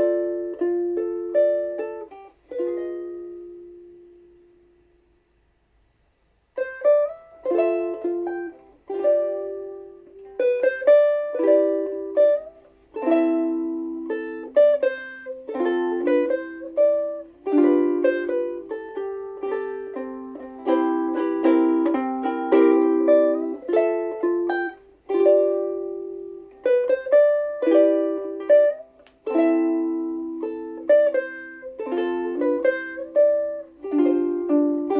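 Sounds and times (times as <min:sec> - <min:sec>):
ukulele melody plucked notes: 0:00.0 - 0:05.1, 0:06.5 - 0:34.9.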